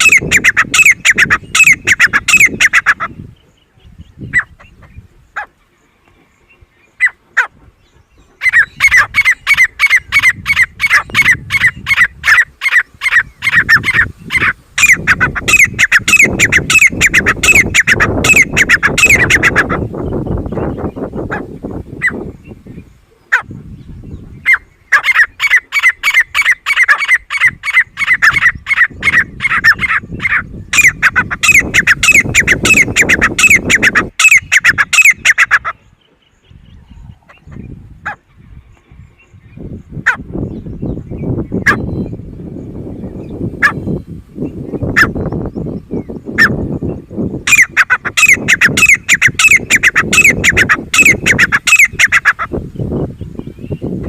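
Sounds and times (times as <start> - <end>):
francolin calling: 0.0 - 7.6, 8.2 - 21.4, 24.4 - 53.9.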